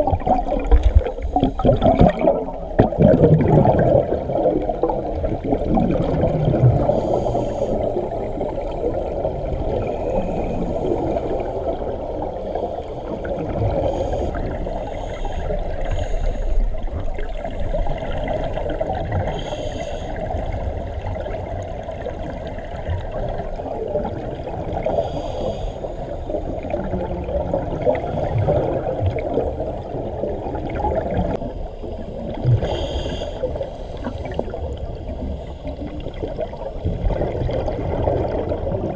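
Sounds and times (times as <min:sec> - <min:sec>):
muffled underwater water rush: 0:00.0 - 0:38.9
scuba exhaust bubbles gurgling: 0:00.0 - 0:38.9.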